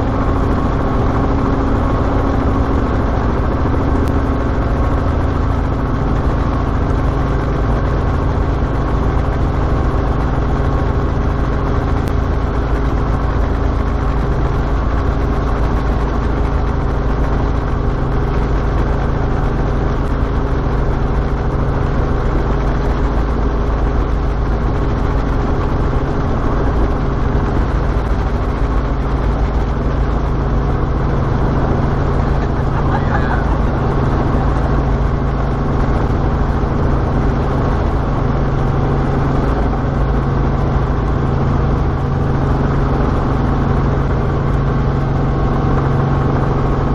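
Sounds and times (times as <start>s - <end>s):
helicopter engine and rotors droning: 0.0s - 46.9s.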